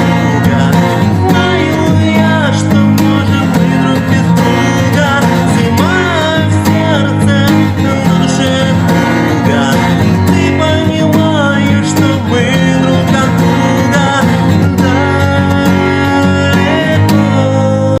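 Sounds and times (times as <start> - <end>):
acoustic guitar strumming: 0.0 - 18.0
person singing: 0.0 - 18.0.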